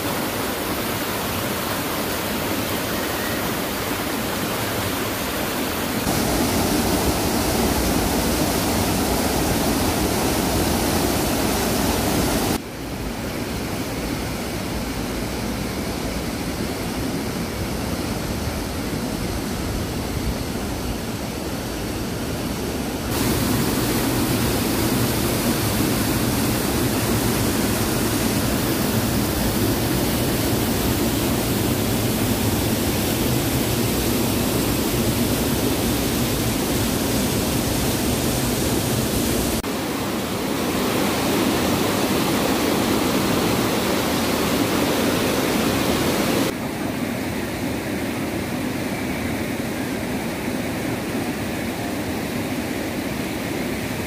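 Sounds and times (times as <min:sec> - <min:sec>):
stream rushing over rocks: 0:00.0 - 0:12.6, 0:23.1 - 0:54.0.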